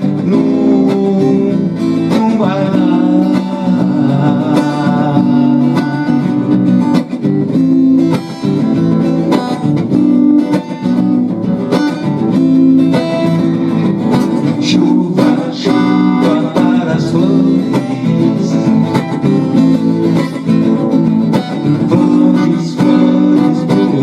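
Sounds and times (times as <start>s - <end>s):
plucked string instrument strumming: 0.0s - 24.0s.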